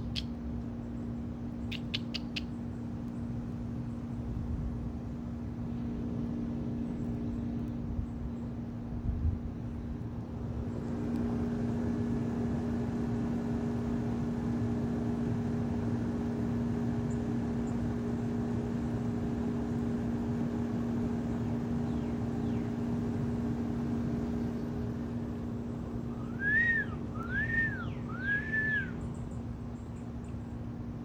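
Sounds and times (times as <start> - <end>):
steady machine hum: 2.6 - 31.0.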